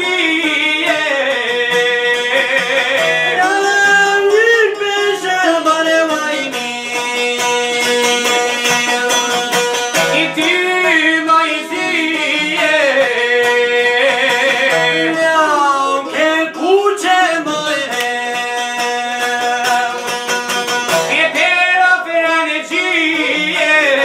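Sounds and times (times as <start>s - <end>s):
man singing ornamented notes: 0.0s - 24.0s
plucked lutes strumming: 0.0s - 24.0s.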